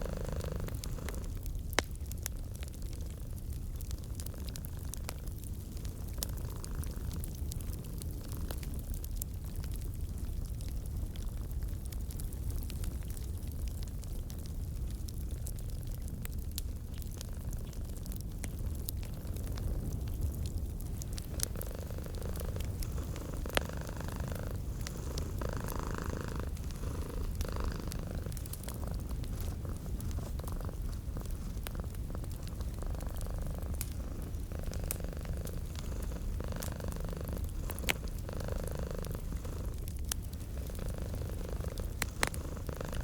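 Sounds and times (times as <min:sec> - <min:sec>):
cat purring: 0:00.0 - 0:01.8, 0:02.7 - 0:08.9, 0:16.3 - 0:43.0
wood fire crackling and popping: 0:00.0 - 0:43.0.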